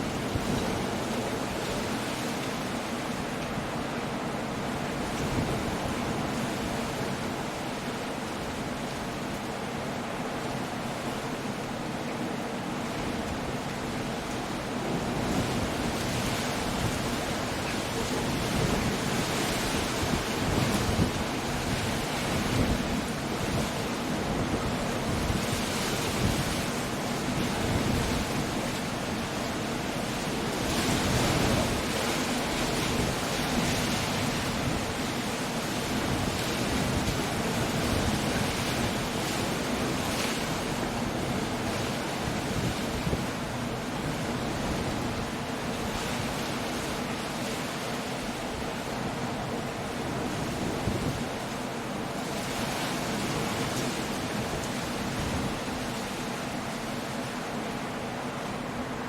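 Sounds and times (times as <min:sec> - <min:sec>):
rain: 0:00.0 - 0:59.0
waves crashing: 0:00.0 - 0:59.0
wind: 0:00.0 - 0:59.0.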